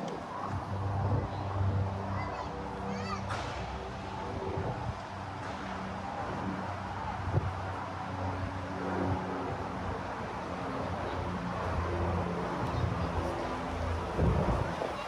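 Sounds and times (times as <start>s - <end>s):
city noise: 0.0s - 15.0s
vehicle engines passing: 0.0s - 15.0s.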